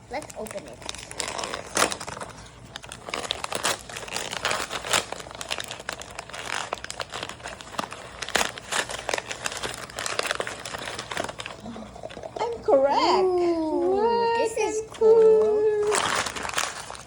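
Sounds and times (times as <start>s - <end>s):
packaging crinkling: 0.0s - 17.0s
packaging tearing: 0.2s - 12.4s, 15.1s - 17.0s.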